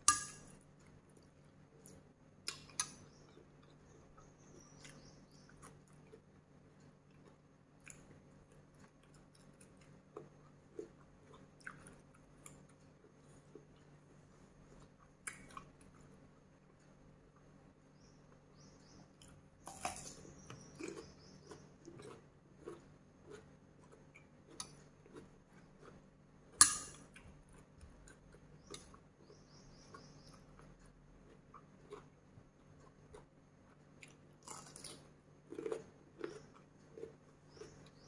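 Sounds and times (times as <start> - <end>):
chewing crisp vegetable: 0.7 - 17.6, 19.1 - 38.0.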